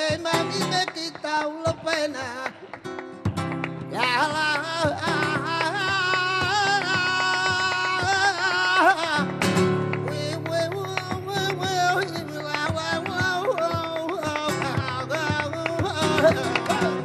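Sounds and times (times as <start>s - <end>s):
acoustic guitar plucked and strummed: 0.0s - 17.0s
person singing flamenco: 0.0s - 17.0s.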